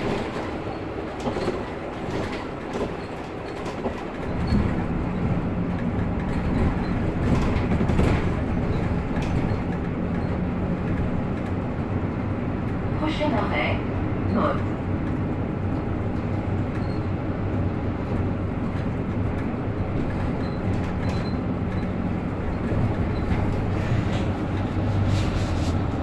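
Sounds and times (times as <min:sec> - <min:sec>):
bus engine running: 0:00.0 - 0:26.0
road rumble: 0:00.0 - 0:26.0.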